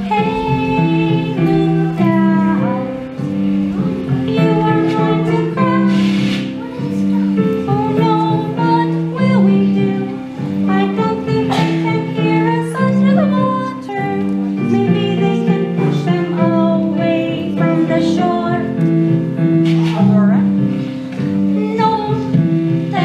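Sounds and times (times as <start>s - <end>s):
children singing opera: 0.0s - 18.8s, 21.5s - 23.0s
recorded instrumental accompaniment: 0.0s - 23.0s.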